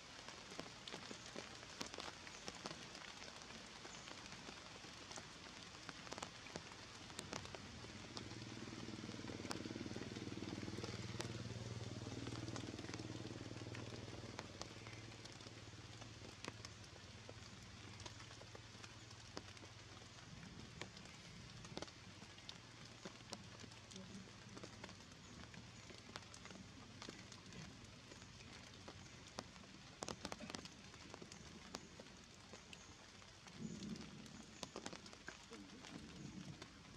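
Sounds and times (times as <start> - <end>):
rain on leaves: 0.0 - 36.9
drip ticks: 0.2 - 36.9.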